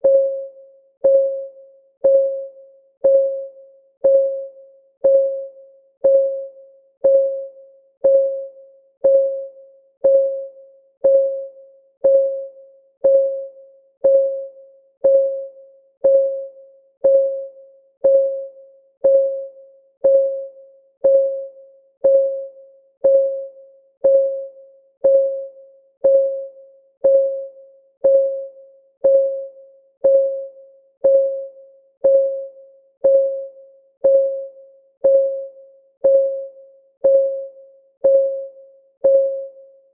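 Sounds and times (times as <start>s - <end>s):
timer ticking: 1.0s - 39.6s.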